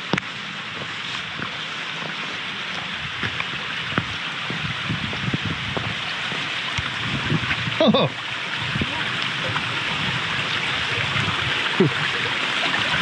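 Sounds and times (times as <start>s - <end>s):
waterfall rushing: 0.2s - 13.0s.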